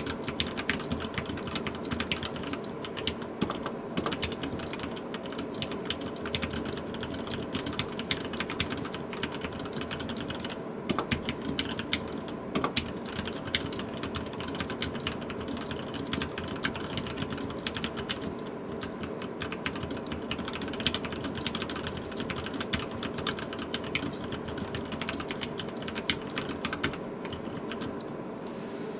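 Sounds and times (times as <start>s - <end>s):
fast typing on mechanical keyboard: 0.0s - 28.0s.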